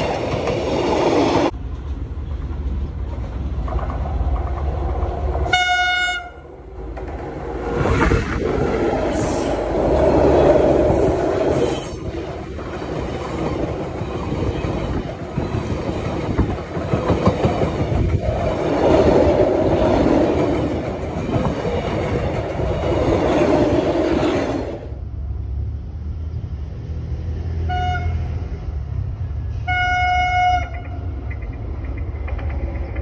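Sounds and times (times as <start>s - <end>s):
clickety-clack over rail joints: 0.0s - 24.9s, 29.5s - 33.0s
train wheels rumbling on rails: 0.0s - 33.0s.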